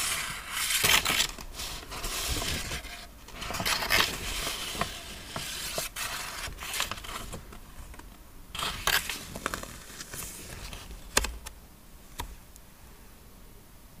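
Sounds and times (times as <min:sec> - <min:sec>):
paper rustling: 0:00.0 - 0:11.5.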